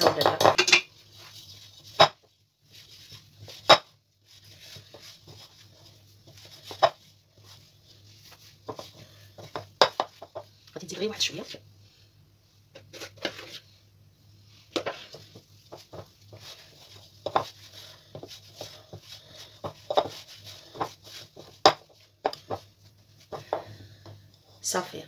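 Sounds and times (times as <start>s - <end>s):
dough squelching and slapping: 0.0s - 11.5s, 14.4s - 25.0s.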